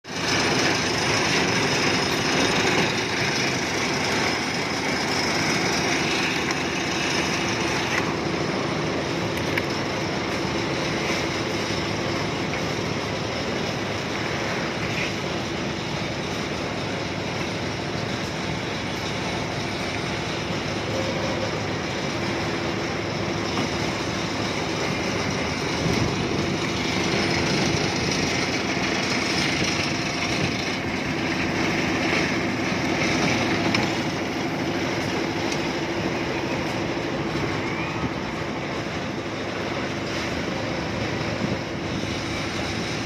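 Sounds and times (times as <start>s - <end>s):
construction machinery running: 0.0s - 43.0s
steady hum: 0.1s - 43.0s.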